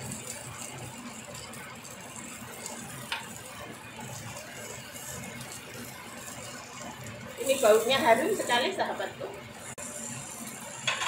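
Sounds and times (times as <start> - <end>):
chicken sizzling on grill pan: 0.0 - 11.0.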